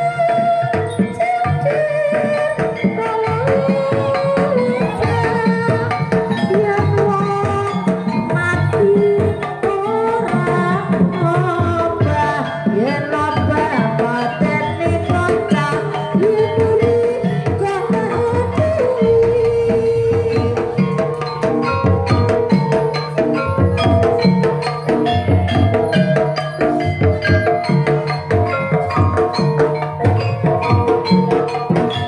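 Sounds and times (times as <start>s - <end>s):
hand drums beating: 0.0s - 32.0s
ringing metallophones: 0.0s - 32.0s.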